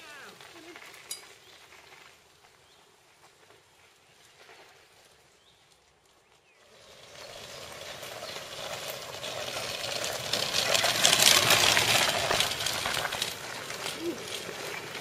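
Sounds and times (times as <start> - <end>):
tyres crunching on gravel: 0.0 - 15.0.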